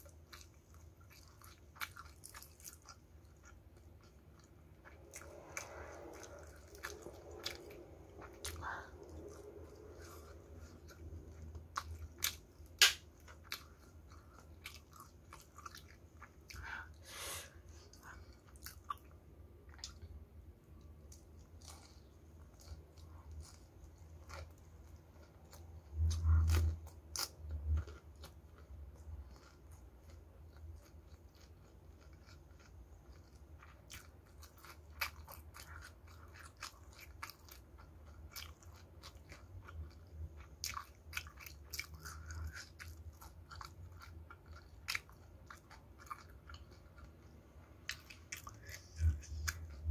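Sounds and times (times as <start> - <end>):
chewing and crunching fried food: 0.0 - 17.1, 17.7 - 49.9.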